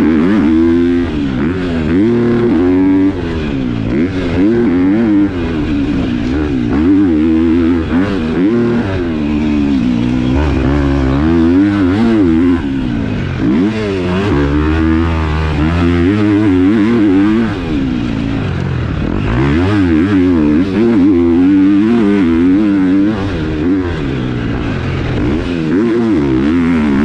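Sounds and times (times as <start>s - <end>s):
motocross bike revving: 0.0s - 27.0s.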